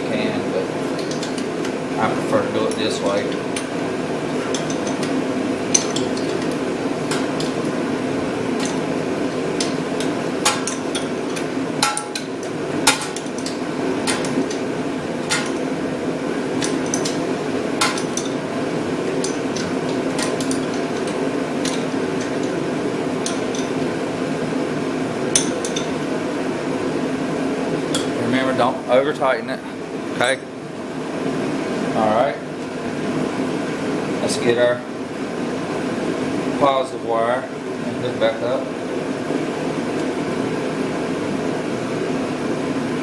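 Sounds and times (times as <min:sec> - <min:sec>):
steady background hum: 0:00.0 - 0:43.0.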